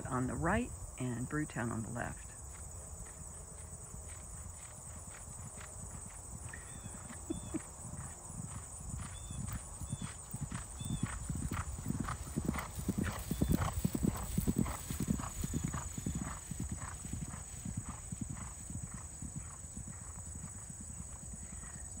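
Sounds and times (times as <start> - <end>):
hoofbeats cantering on grass: 0.0 - 22.0.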